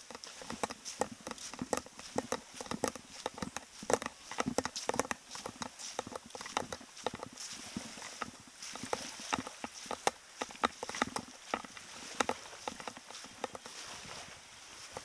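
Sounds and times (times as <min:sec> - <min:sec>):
footsteps on a path: 0:00.0 - 0:15.0.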